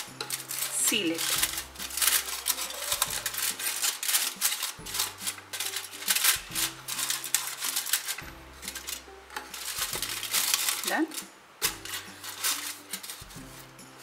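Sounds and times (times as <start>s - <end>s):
aluminium foil crinkling: 0.0s - 14.0s
background music low notes: 0.0s - 14.0s.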